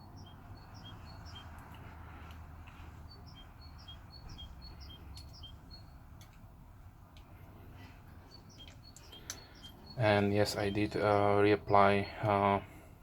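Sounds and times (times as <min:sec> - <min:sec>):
small bird chirping: 0:00.0 - 0:06.4, 0:07.2 - 0:12.8.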